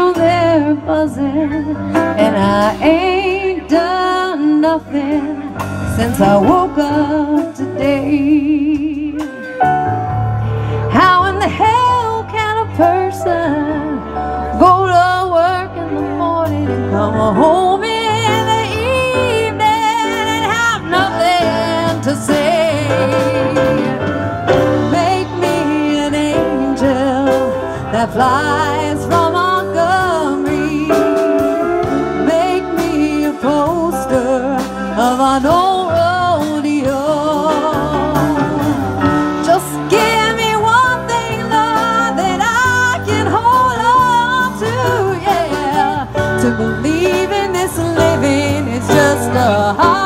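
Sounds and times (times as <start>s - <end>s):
woman singing: 0.0s - 10.2s, 10.8s - 50.0s
country blues band playing: 0.0s - 50.0s.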